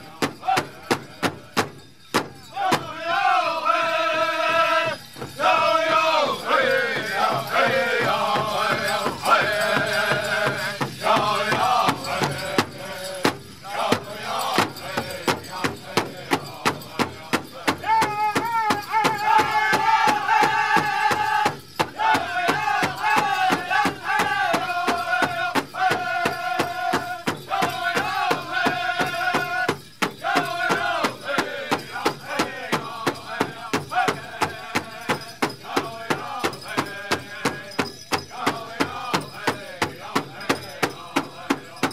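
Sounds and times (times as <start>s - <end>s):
group singing high-pitched: 0.0s - 1.5s, 2.5s - 41.9s
large drum beaten with sticks: 6.4s - 41.9s.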